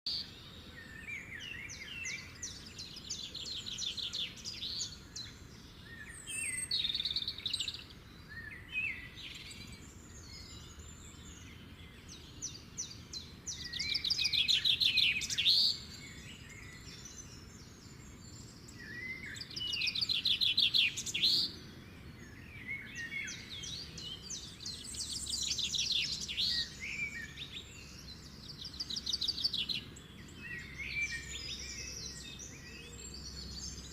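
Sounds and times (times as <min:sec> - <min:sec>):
small birds chirping and trilling: 0:00.1 - 0:33.9
steady low background noise: 0:00.1 - 0:33.9.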